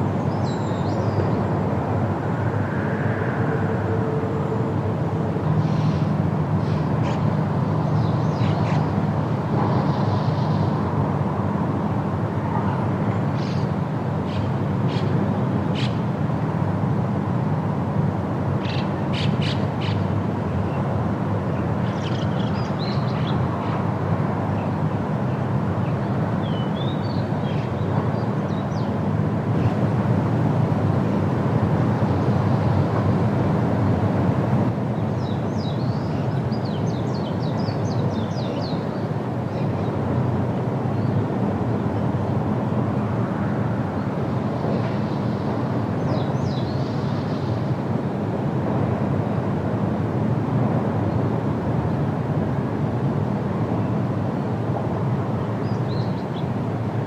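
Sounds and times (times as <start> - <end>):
wind rushing through trees: 0.0 - 57.0.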